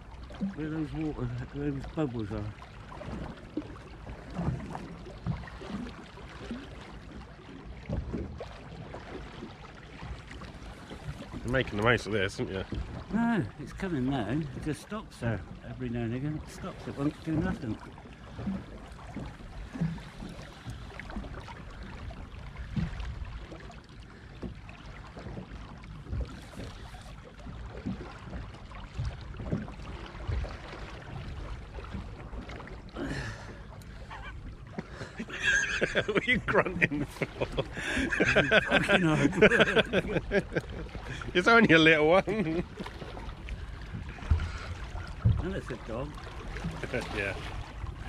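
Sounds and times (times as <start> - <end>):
water lapping against boat hull: 0.0 - 48.0
water slaps and knocks: 0.0 - 48.0.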